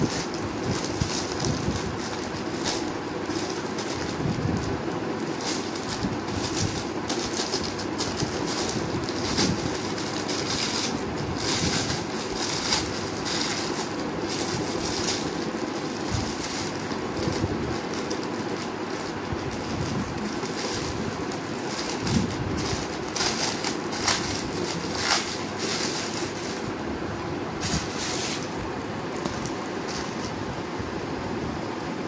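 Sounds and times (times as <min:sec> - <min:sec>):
plastic packaging crinkling: 0:00.0 - 0:26.8, 0:27.6 - 0:30.4.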